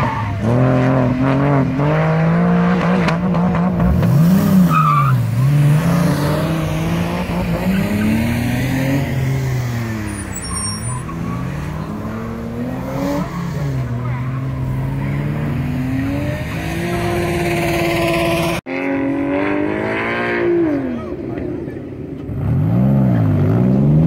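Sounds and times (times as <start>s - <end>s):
car engine revving: 0.4s - 24.0s.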